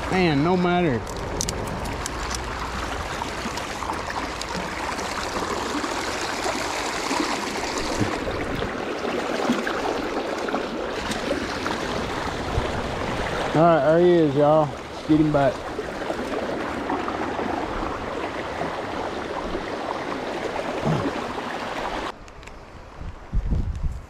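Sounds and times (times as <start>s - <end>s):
river water running: 0.0s - 22.2s.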